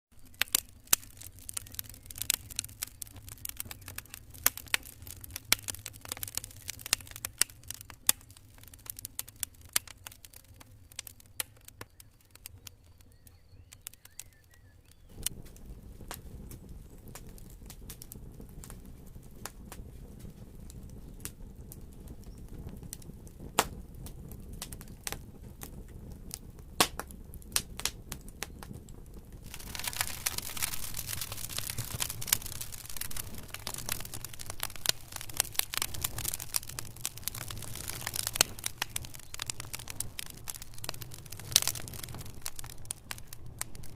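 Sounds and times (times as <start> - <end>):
low rumble of flames: 0.1 - 43.9
wood fire crackling and popping: 0.1 - 43.9.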